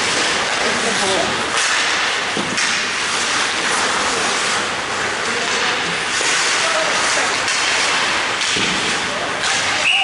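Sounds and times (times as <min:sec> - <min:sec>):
skates scraping across ice: 0:00.0 - 0:09.8.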